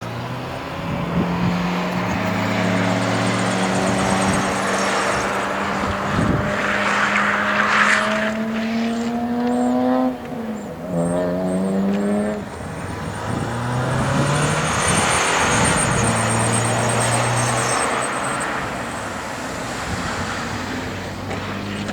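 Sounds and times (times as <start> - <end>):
car engine accelerating: 0.0 - 21.9.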